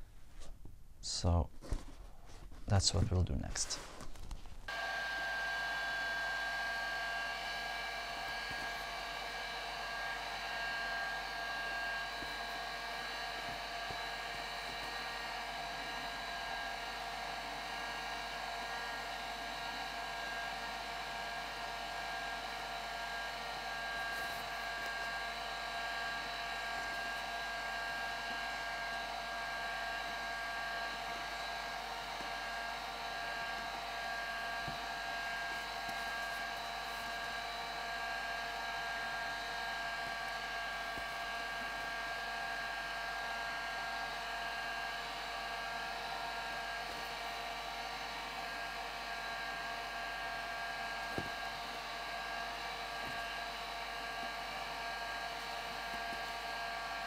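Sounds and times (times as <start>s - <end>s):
heat gun whining: 4.7s - 57.0s.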